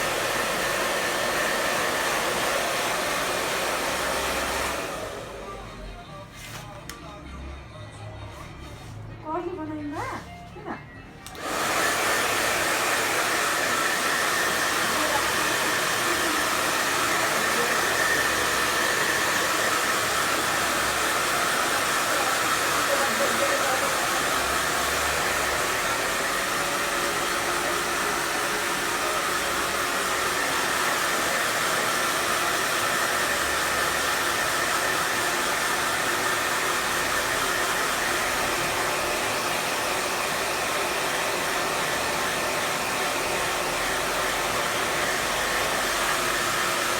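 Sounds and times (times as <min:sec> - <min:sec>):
hair dryer running: 0:00.0 - 0:05.8, 0:11.2 - 0:46.9.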